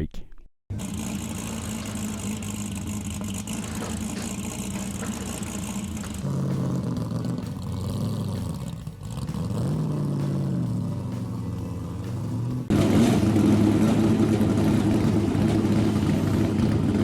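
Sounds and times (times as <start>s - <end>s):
muscle car engines running: 0.7s - 17.0s.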